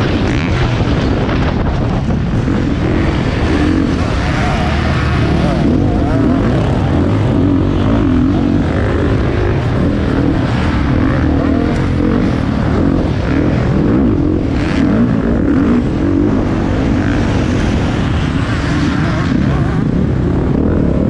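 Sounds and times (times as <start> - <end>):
motocross bike engine revving: 0.0 - 21.0
other bikes running nearby: 0.0 - 21.0
rush of riding: 0.0 - 21.0.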